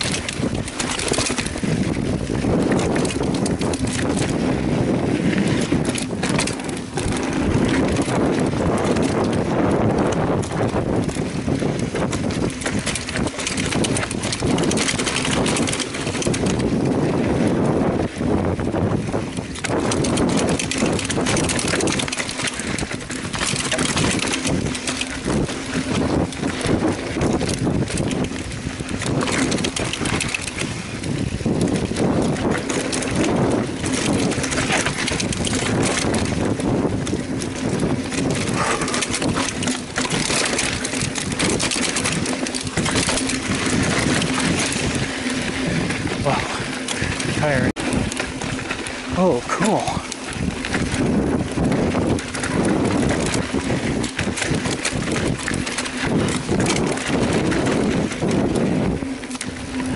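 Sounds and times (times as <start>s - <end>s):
bike rattling: 0.0s - 59.9s
tyres on dirt and rock: 0.0s - 59.9s
wind rushing over microphone: 0.0s - 59.9s.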